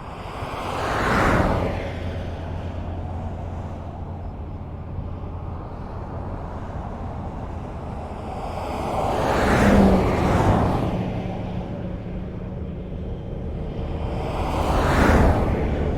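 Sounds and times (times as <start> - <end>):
low rumble of traffic: 0.0 - 15.9.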